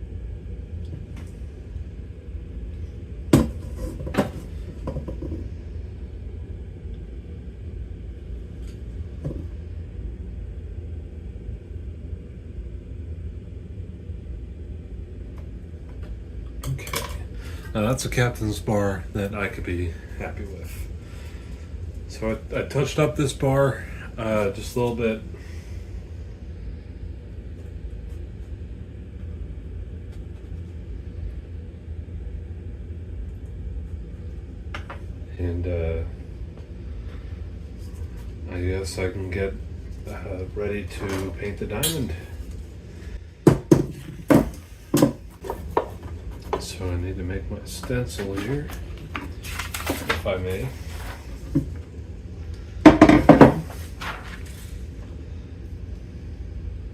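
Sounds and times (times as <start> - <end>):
steady low rumble: 0.0 - 56.9.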